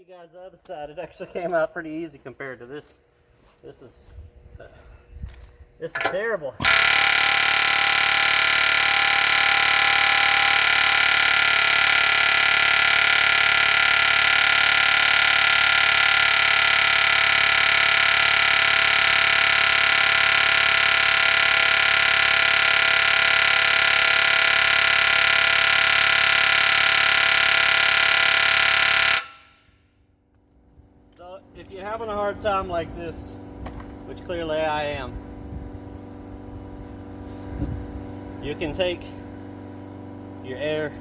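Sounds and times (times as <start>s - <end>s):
pneumatic air hammer buzzing: 4.1s - 41.0s.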